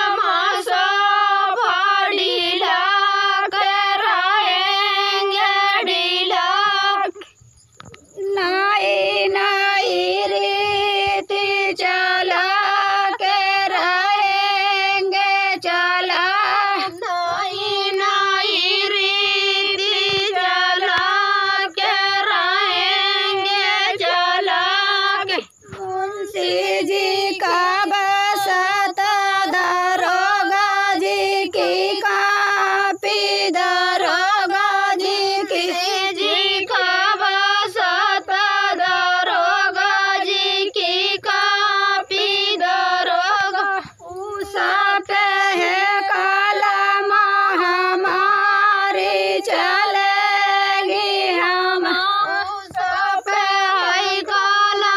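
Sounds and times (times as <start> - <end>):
woman singing folk song: 0.0 - 54.9.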